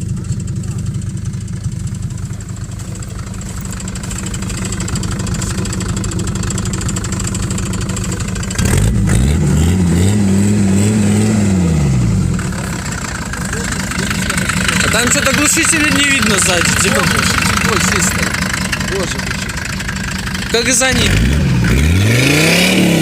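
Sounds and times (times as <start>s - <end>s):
diesel engine clattering and revving: 0.0s - 23.0s.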